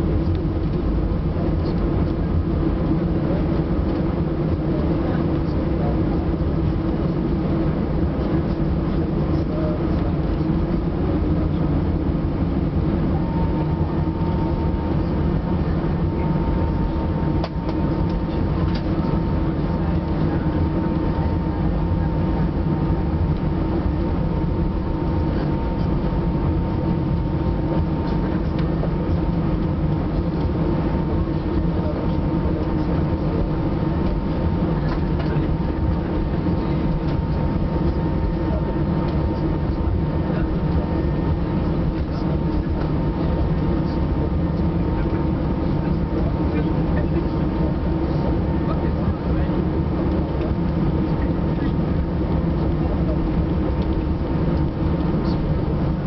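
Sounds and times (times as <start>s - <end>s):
aircraft engines rumbling: 0.0s - 56.0s
thin steady whine: 0.0s - 56.0s.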